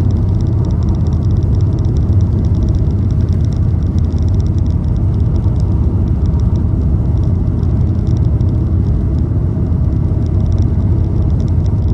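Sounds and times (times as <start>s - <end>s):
car road and engine rumble: 0.0s - 11.9s.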